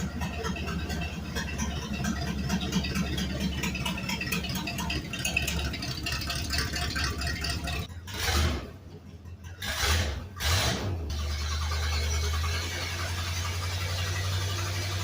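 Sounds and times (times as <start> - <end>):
engine running hard with open exhaust: 0.0 - 8.9, 9.6 - 15.0
rapid rattling clatter: 0.0 - 15.0.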